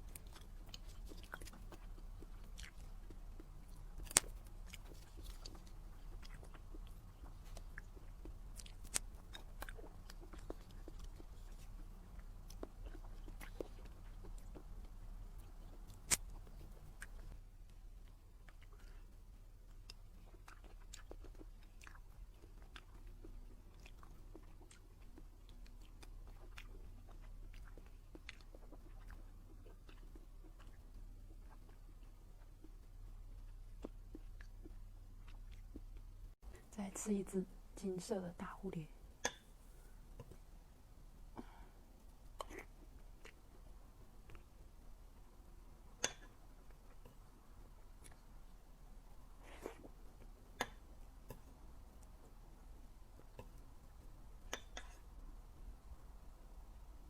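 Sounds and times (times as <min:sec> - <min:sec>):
person chewing wetly: 0:00.0 - 0:36.6, 0:41.3 - 0:44.6, 0:49.1 - 0:55.2.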